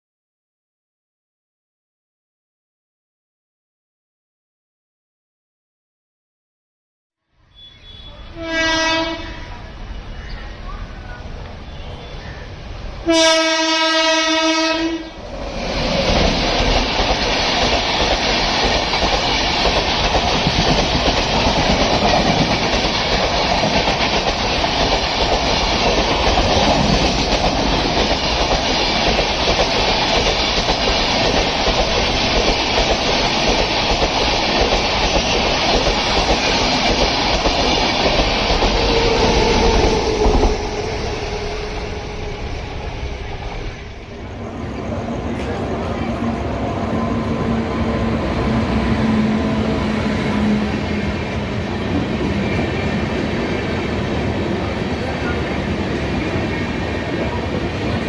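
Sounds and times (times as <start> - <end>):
passenger train passing: 7.4 - 58.0.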